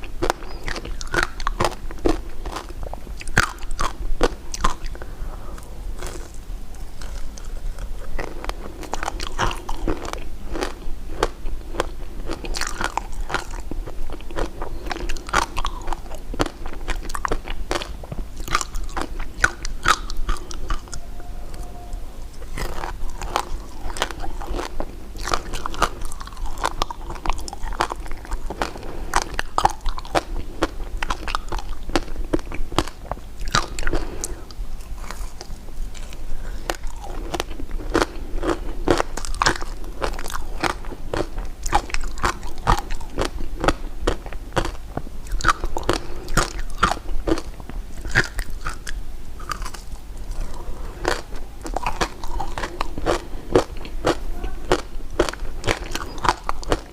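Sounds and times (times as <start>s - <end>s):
candy crunching: 0.0s - 56.9s
wet chewing: 0.0s - 56.9s.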